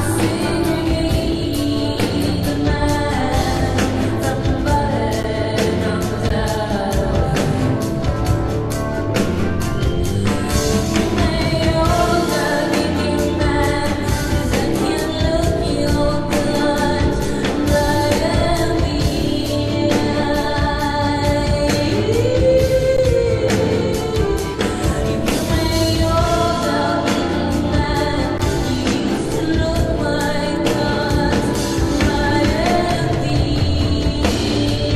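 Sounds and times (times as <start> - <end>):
woman singing: 0.0 - 8.6, 9.4 - 34.9
rock band with drums: 0.0 - 34.9.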